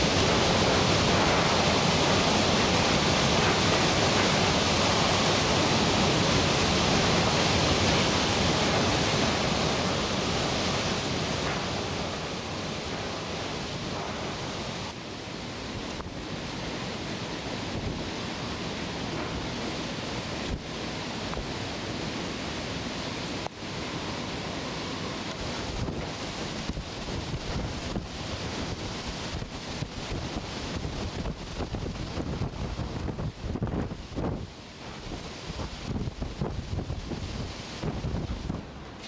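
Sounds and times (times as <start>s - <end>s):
strong wind and rain: 0.0s - 39.0s.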